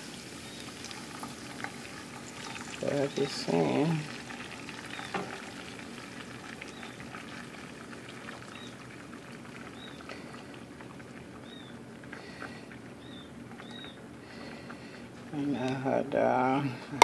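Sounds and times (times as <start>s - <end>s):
egg sizzling in frying pan: 0.0s - 15.4s.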